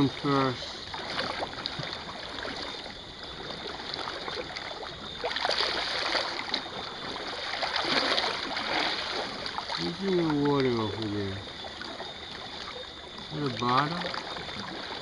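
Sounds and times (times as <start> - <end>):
water trickling: 0.0 - 15.0
waves washing over concrete: 0.0 - 15.0.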